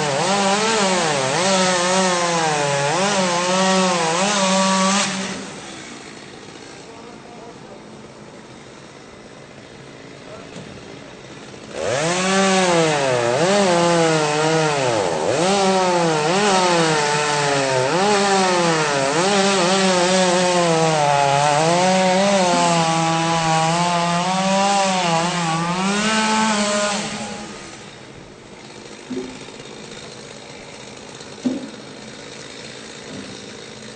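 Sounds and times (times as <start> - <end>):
chainsaw cutting into tree: 0.0 - 7.2, 8.0 - 33.9.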